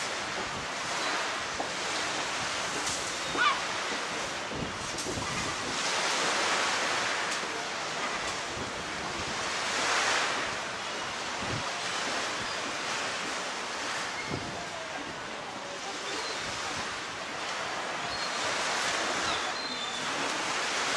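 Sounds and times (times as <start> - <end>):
wind on microphone: 0.0 - 7.3, 8.1 - 20.9
waves washing on shingle beach: 0.0 - 20.9.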